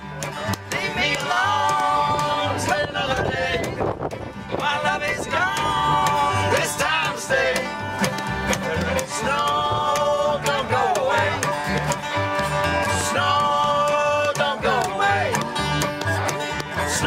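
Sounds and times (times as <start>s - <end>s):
acoustic guitar: 0.0s - 17.0s
resonator guitar: 0.0s - 17.0s
upright bass plucking: 0.0s - 17.0s.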